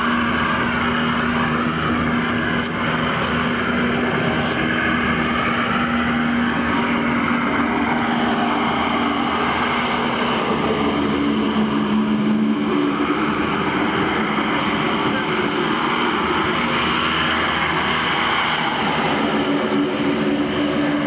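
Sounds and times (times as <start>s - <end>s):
boat motor running: 0.0s - 21.0s
rush of wind and water: 0.0s - 21.0s.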